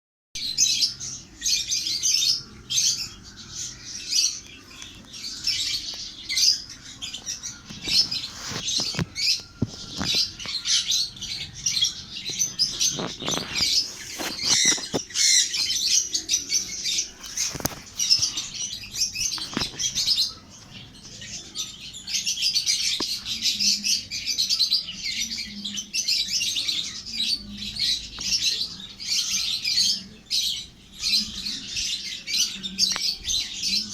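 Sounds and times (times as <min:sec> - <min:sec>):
baby parrots chirping and squawking: 0:00.6 - 0:33.9.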